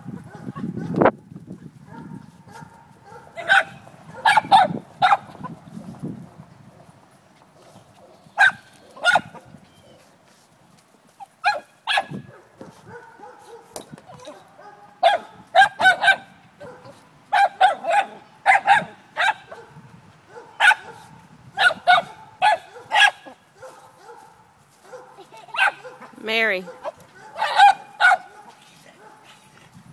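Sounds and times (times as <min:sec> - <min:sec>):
small dogs barking: 0:00.0 - 0:01.1, 0:01.8 - 0:05.5, 0:07.6 - 0:10.1, 0:11.2 - 0:29.6.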